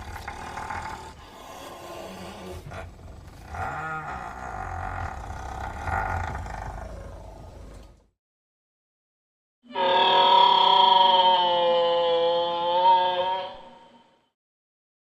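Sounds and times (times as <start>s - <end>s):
dinosaur roar: 0.0s - 7.9s, 9.7s - 14.2s.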